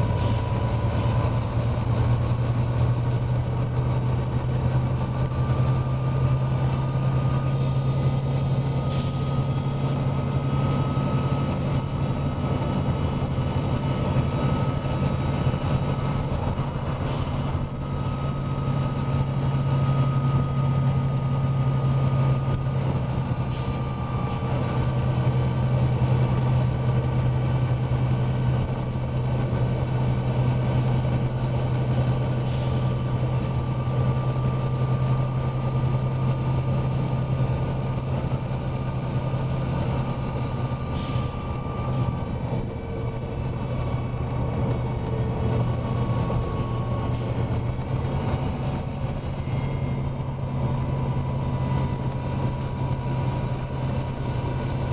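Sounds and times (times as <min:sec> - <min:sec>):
bus diesel engine droning: 0:00.0 - 0:54.9.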